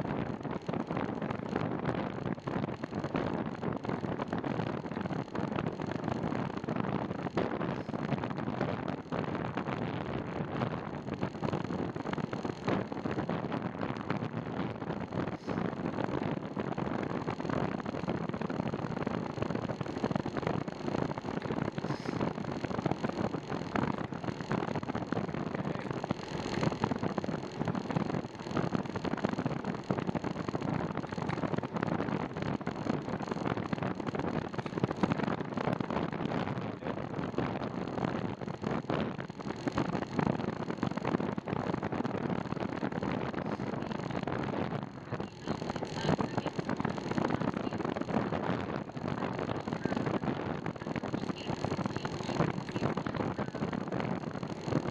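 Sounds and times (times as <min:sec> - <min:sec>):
wind rushing on microphone: 0:00.0 - 0:54.9.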